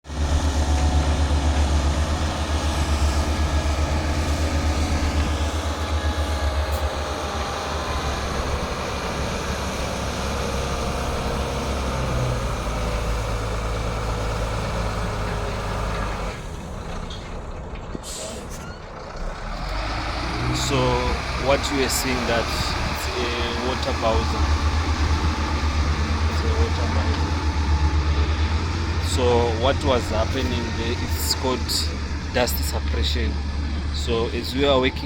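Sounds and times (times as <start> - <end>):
truck engine throbbing: 0.0 - 35.0.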